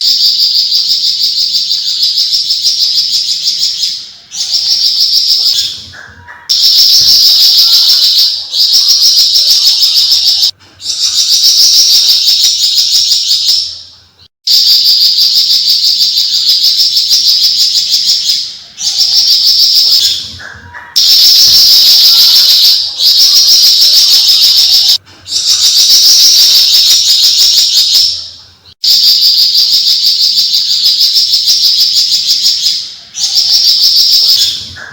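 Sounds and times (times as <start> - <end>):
bird fast chattering song: 0.0 - 34.9.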